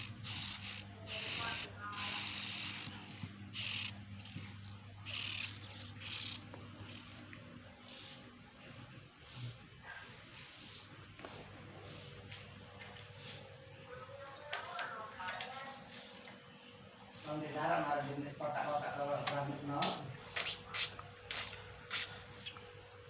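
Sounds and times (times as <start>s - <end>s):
bird chicks chirping: 0.0s - 23.0s.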